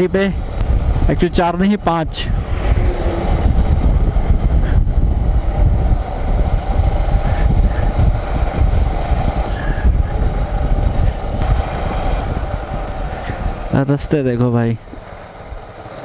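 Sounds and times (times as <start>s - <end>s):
wind rumble on microphone: 0.0s - 15.8s
motorcycle engine humming: 0.0s - 16.0s.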